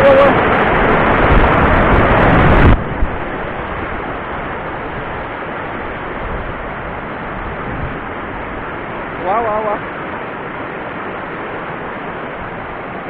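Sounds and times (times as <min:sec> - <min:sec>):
whitewater rushing over rocks: 0:00.0 - 0:13.0
wind buffeting microphone: 0:00.0 - 0:13.0.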